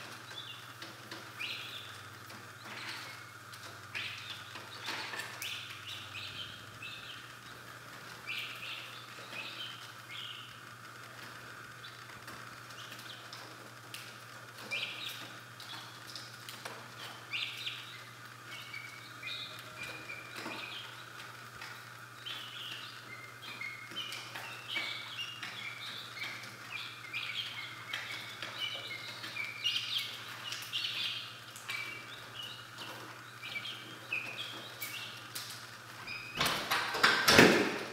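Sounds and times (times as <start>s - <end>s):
steady low hum: 0.0s - 36.4s
chicks peeping: 0.0s - 37.9s.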